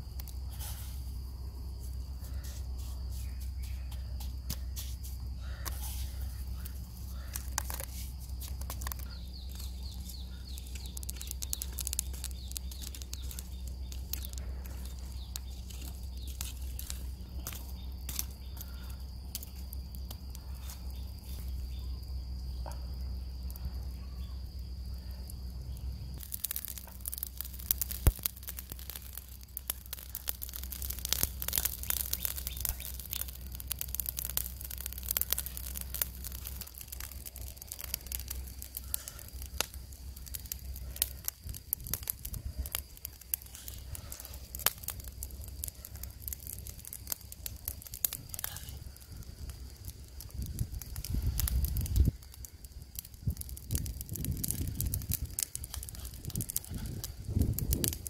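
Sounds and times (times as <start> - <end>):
embers crackling and popping: 0.0 - 58.0.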